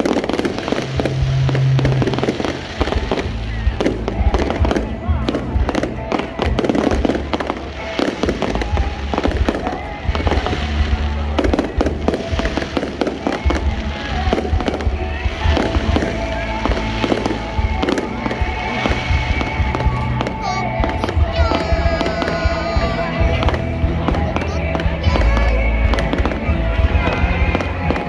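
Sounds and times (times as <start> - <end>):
fireworks bangs and booms: 0.0 - 28.0
music playing: 0.0 - 28.0.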